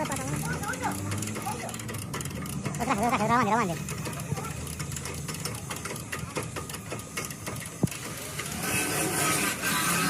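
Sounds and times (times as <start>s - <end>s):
fast regular ticking: 0.0s - 8.8s.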